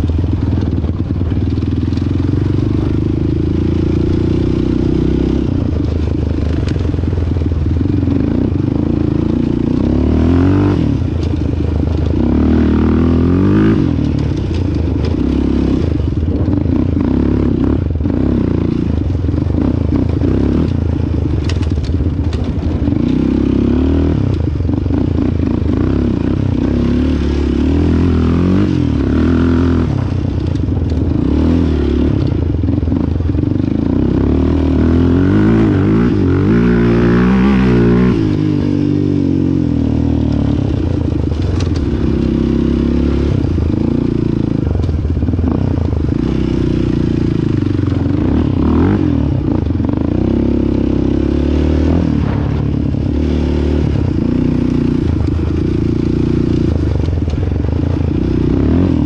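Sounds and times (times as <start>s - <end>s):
quad engine running hard: 0.0s - 59.0s.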